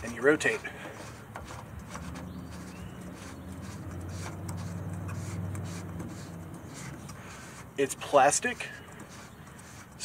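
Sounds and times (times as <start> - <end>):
tool scraping plastic: 0.0 - 10.0.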